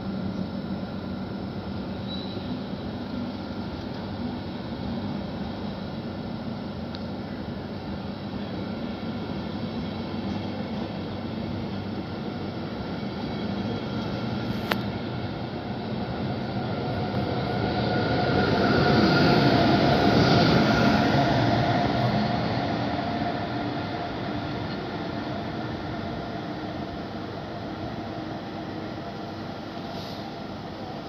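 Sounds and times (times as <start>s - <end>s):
train running on tracks: 0.0s - 31.0s.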